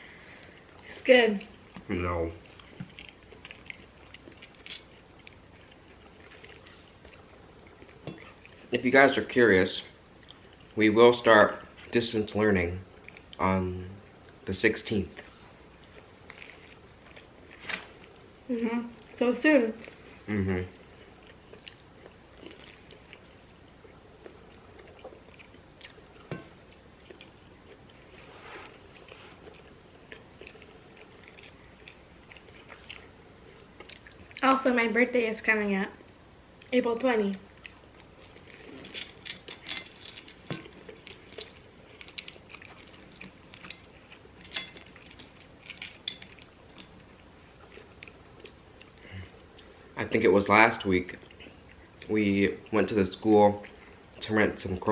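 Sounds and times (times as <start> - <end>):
faint chewing: 0.0 - 12.0, 12.8 - 34.8, 36.0 - 54.9.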